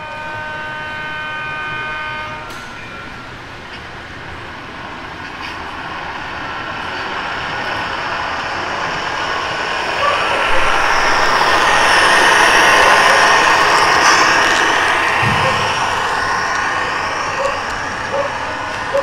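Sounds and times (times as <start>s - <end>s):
model train rolling and whirring: 0.0s - 19.0s.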